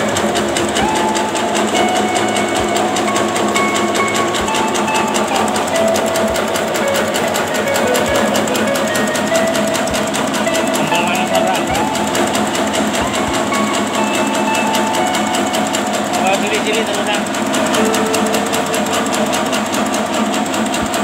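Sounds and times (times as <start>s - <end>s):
low machine knock: 0.0s - 21.0s
machine rattle: 0.0s - 21.0s.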